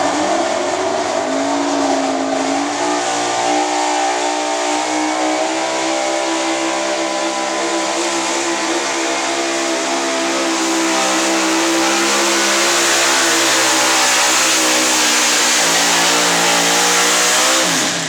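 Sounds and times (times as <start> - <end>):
truck engine at high revs: 0.0 - 18.0.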